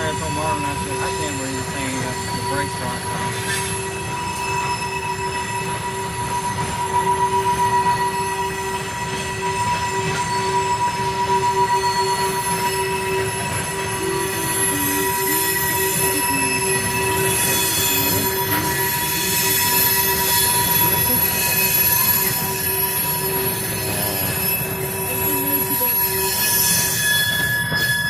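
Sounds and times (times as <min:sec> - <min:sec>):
rumble of train cars: 0:00.0 - 0:28.0
train wheels squealing on rail: 0:00.0 - 0:28.0.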